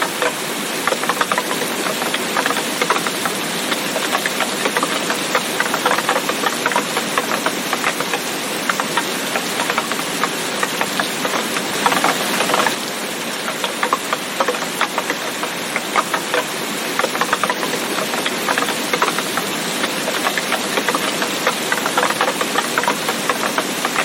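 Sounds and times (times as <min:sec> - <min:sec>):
raindrops striking close by: 0:00.0 - 0:24.0
steady rain falling: 0:00.0 - 0:24.0.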